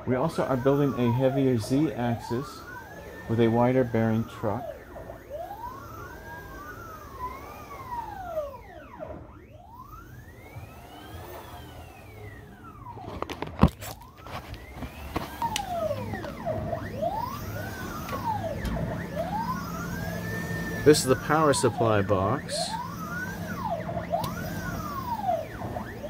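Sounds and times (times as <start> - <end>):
cnc router motors whining: 0.0 - 26.0.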